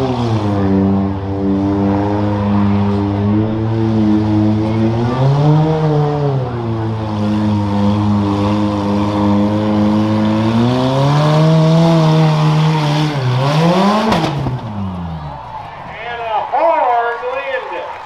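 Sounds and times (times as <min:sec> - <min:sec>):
engine revving under load: 0:00.0 - 0:15.7.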